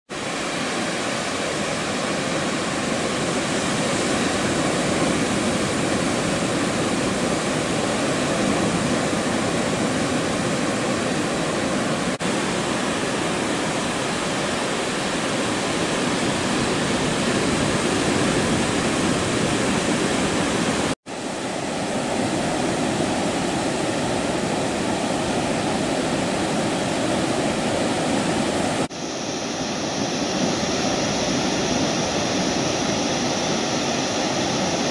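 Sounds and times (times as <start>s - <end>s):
ocean surf breaking: 0.1s - 34.9s.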